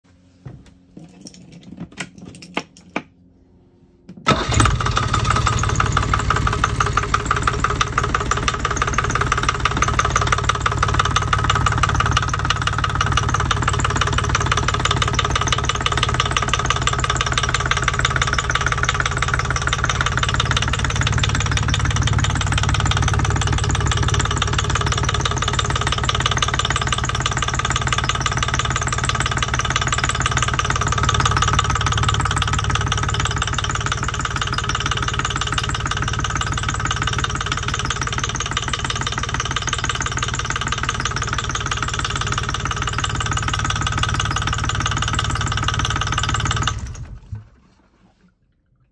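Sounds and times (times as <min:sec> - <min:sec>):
diesel engine clattering: 0:04.2 - 0:47.2.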